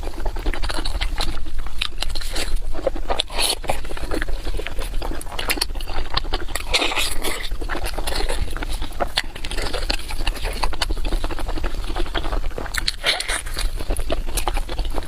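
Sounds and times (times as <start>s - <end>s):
person biting and chewing food: 0.0s - 15.0s.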